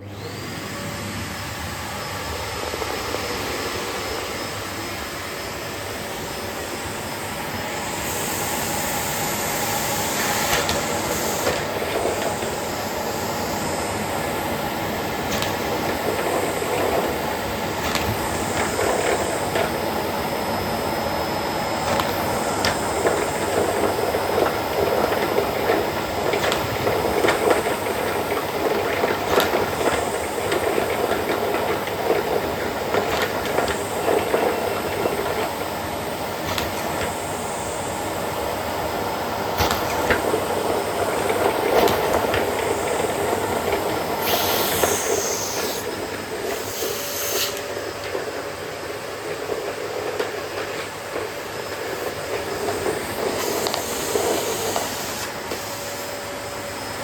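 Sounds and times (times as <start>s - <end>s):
vacuum cleaner running: 0.0s - 57.0s
objects rattling in vacuum hose: 8.0s - 20.0s, 21.3s - 55.7s.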